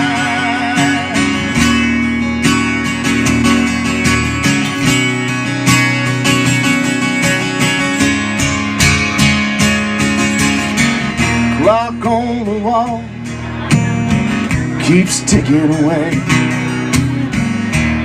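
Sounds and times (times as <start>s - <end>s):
acoustic guitar strumming: 0.0s - 18.0s
sustained bass notes: 0.0s - 18.0s.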